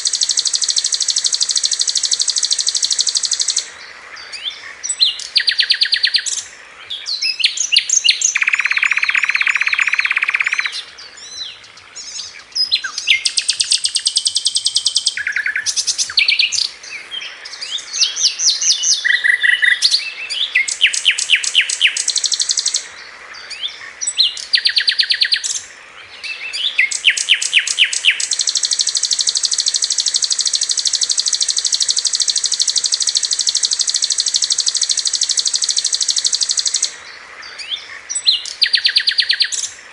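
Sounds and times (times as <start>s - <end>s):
flycatcher singing high trills: 0.0s - 3.7s, 7.1s - 39.8s.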